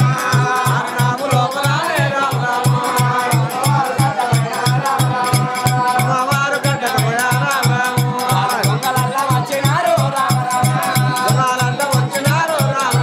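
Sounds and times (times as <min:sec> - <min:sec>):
fast drum beat: 0:00.0 - 0:13.0
jingling percussion: 0:00.0 - 0:13.0
person singing into a microphone: 0:00.0 - 0:13.0.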